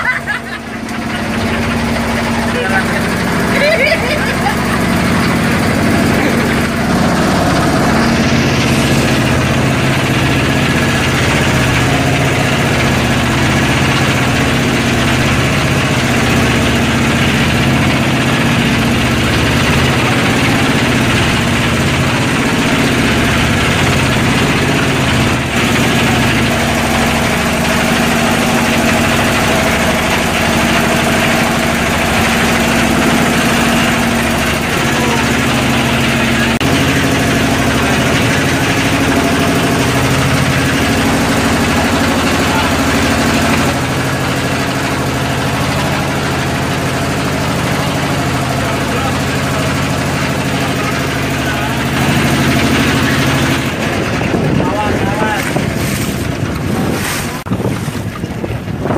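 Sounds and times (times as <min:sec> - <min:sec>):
motorboat engine droning: 0:00.0 - 0:58.9
water rushing against hull: 0:00.0 - 0:58.9.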